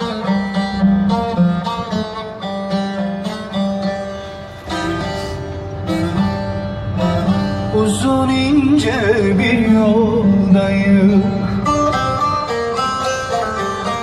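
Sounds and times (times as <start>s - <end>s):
plucked long-necked lute melody: 0.0s - 14.0s.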